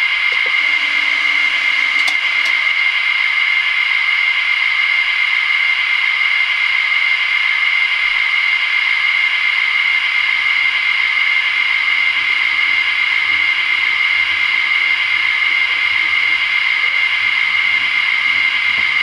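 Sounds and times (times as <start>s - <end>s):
loud hiss with high whine: 0.0s - 19.0s.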